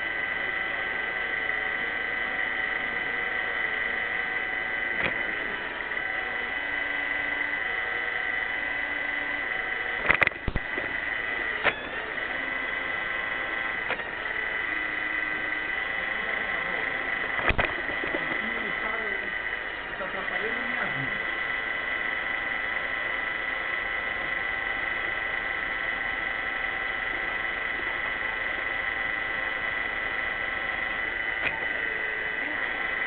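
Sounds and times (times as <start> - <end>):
robot vacuum motor whine: 0.0 - 33.0.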